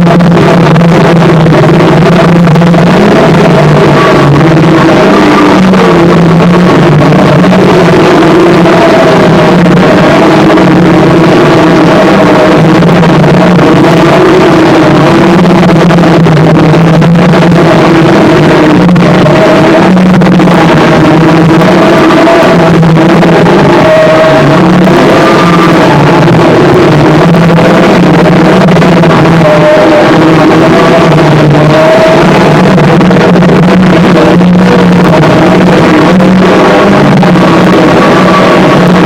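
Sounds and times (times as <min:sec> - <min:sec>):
distorted harsh noise music: 0:00.0 - 0:39.0
wavering droning tones: 0:00.0 - 0:39.0.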